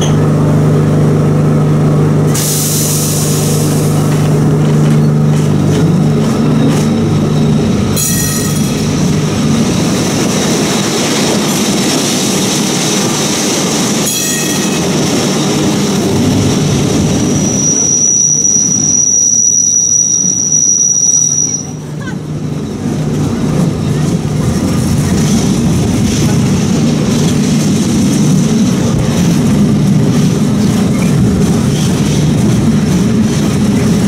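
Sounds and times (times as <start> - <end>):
tram rumbling on rails: 0.0 - 34.0
tram wheels squealing: 2.3 - 34.0.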